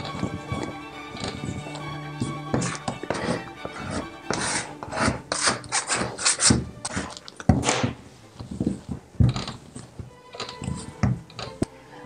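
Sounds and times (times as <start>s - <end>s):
dough kneaded on wooden table: 0.0s - 11.8s.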